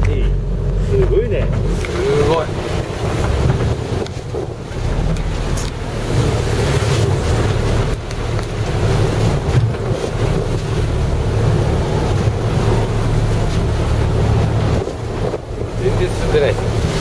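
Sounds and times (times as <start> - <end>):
sea surf: 0.0 - 17.0
wind blowing across microphone: 0.0 - 17.0.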